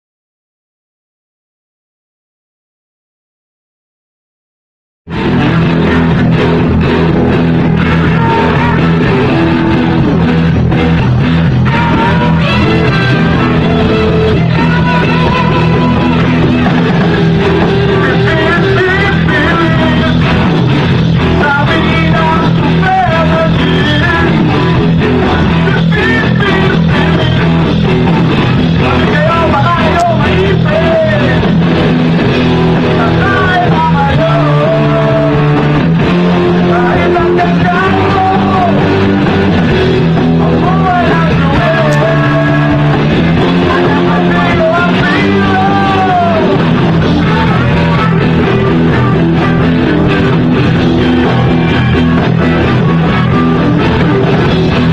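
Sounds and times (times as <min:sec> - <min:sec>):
person singing: 0:05.1 - 0:31.8, 0:32.4 - 0:54.9
electric guitar: 0:05.1 - 0:54.9
live rock band playing: 0:05.1 - 0:54.9
steady drum beat: 0:05.2 - 0:54.9.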